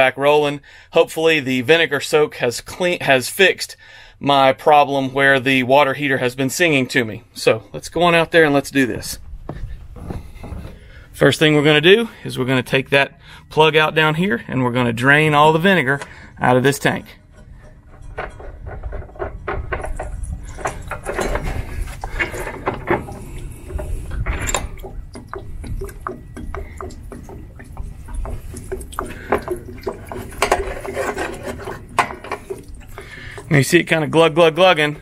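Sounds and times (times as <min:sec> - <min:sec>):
water glugging onto concrete: 0:05.4 - 0:35.0.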